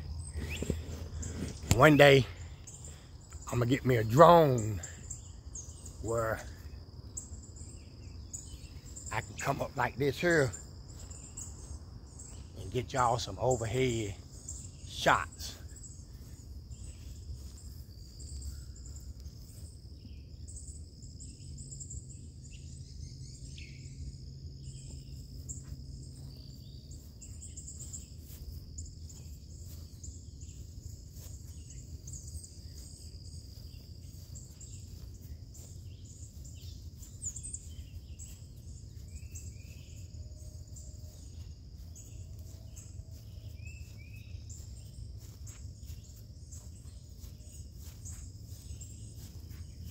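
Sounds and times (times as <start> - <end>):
bird calls: 0.0 - 49.9
insects chirping: 0.0 - 49.9.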